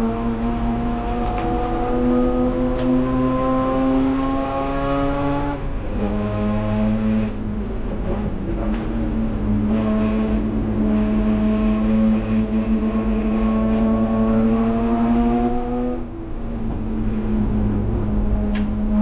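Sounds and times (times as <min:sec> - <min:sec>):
rotary engine accelerating hard: 0:00.0 - 0:19.0.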